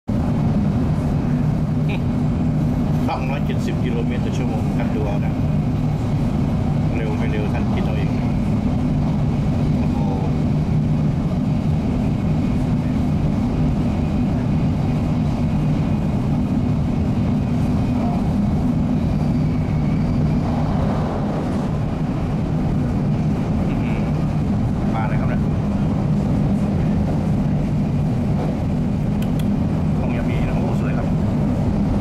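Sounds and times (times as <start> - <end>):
train cabin low rumble: 0.0 - 32.0.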